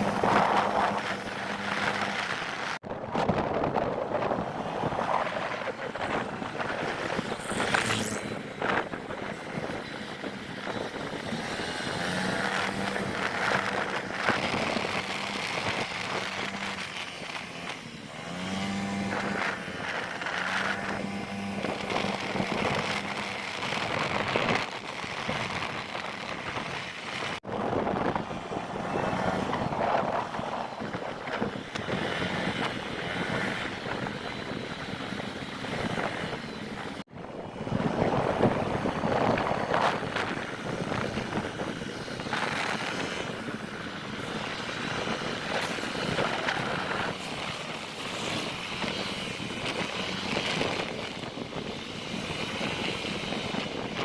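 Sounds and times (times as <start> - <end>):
scooter engine drone: 0.0 - 54.0
vehicles passing: 0.0 - 54.0
wind rushing over microphone: 0.0 - 54.0.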